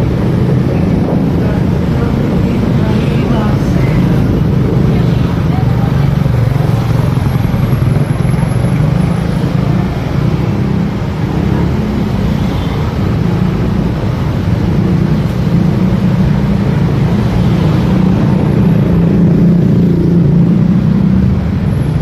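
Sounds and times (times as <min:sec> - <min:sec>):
motorcycle engine running: 0:00.0 - 0:22.0
road noise: 0:00.0 - 0:22.0
wind noise: 0:00.0 - 0:22.0.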